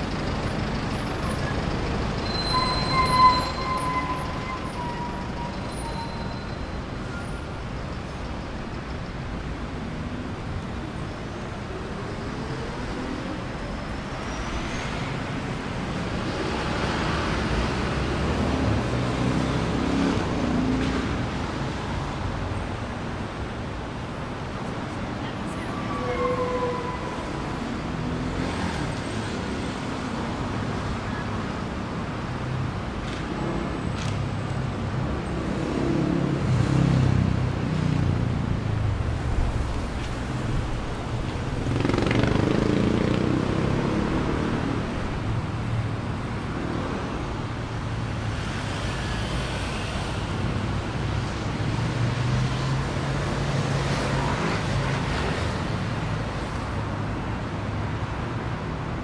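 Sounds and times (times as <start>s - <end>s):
passing cars: 6.5s - 59.0s
loud vehicles passing: 8.6s - 59.0s.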